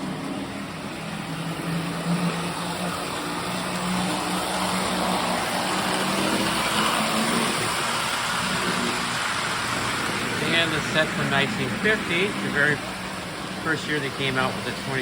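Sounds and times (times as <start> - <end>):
model train electric motor hum: 0.0 - 15.0
wheels rattling on rails: 0.0 - 15.0.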